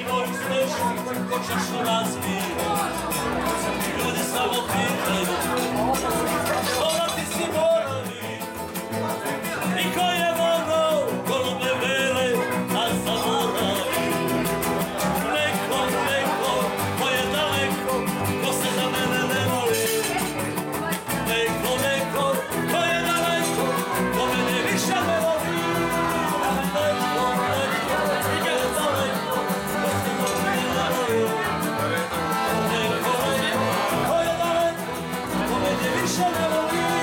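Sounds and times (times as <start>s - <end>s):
acoustic guitar strumming: 0.0s - 37.0s
man singing: 0.0s - 37.0s.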